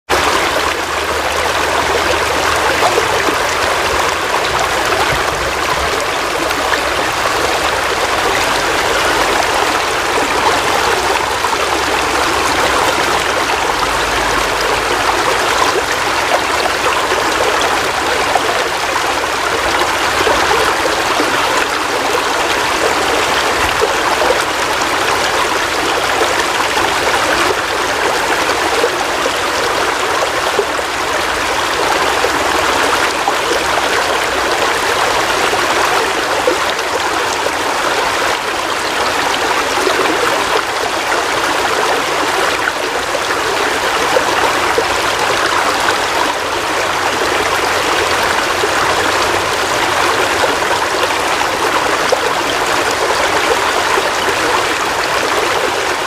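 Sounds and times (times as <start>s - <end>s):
heavy rain: 0.1s - 56.0s.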